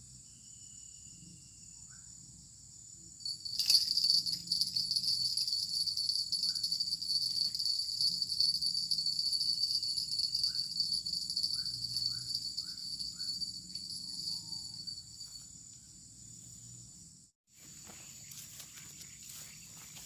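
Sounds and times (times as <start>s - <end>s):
insects buzzing: 0.1s - 20.0s.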